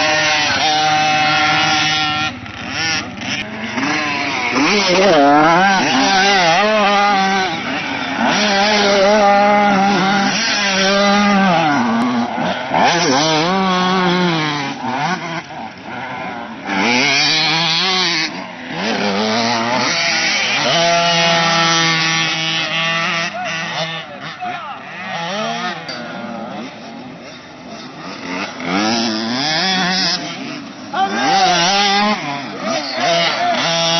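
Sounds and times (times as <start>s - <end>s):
motocross engines revving: 0.0s - 33.9s.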